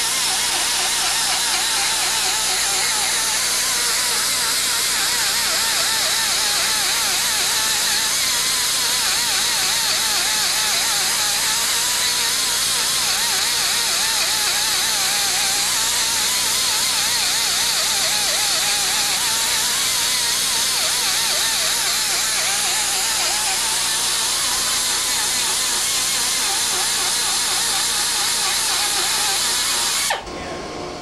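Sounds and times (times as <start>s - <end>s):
die grinder cutting metal: 0.0s - 31.0s.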